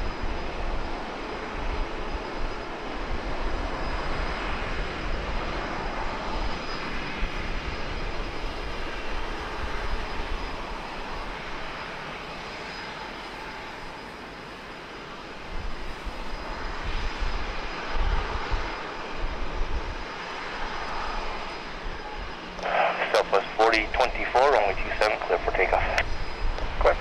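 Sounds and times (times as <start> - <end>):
jet engines rushing: 0.1 - 27.0.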